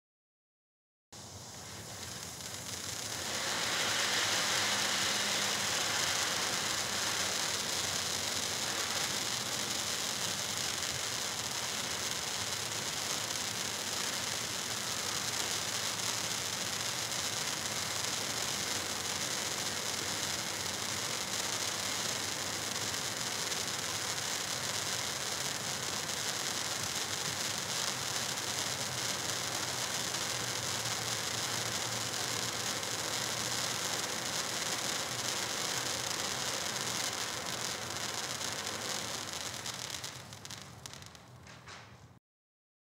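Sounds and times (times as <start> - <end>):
firework fountain hissing: 1.2 - 41.6.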